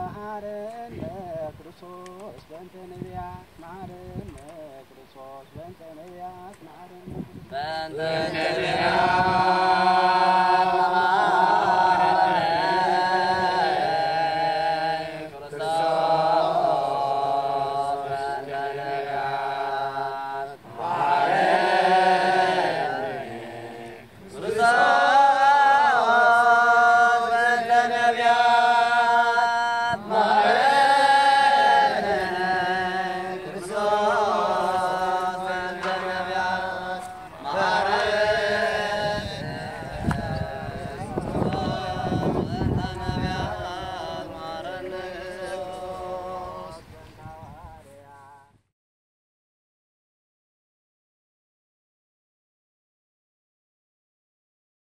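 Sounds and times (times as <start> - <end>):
person chanting a prayer: 0.0 - 48.5.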